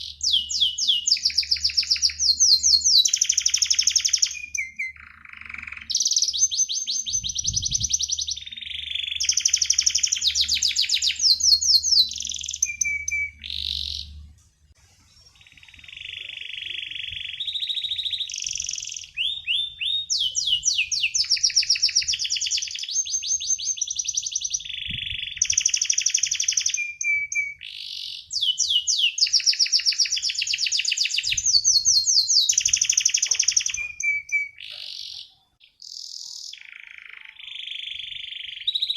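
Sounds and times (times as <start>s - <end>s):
canary singing trills: 0.0s - 14.3s, 15.2s - 38.9s.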